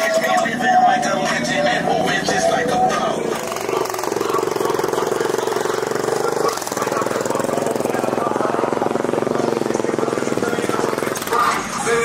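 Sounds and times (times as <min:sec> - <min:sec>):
engine running with pulsing: 0:00.0 - 0:12.0.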